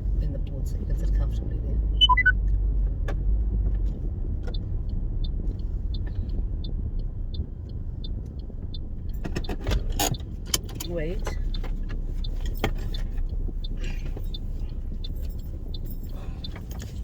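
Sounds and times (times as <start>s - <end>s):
car engine and road rumble: 0.0s - 17.0s
turn signal ticking: 0.0s - 17.0s.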